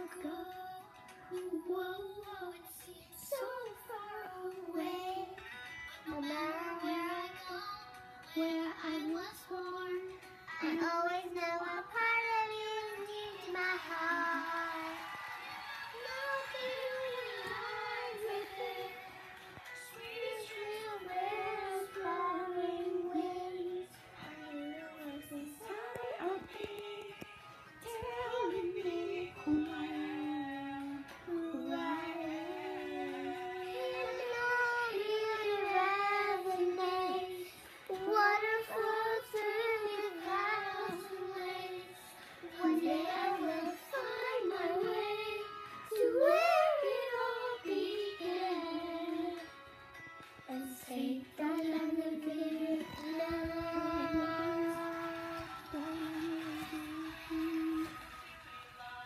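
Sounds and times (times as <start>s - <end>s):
child singing: 0.0s - 15.0s, 15.9s - 19.1s, 19.8s - 27.2s, 27.8s - 49.4s, 50.5s - 58.0s
music: 0.0s - 59.0s.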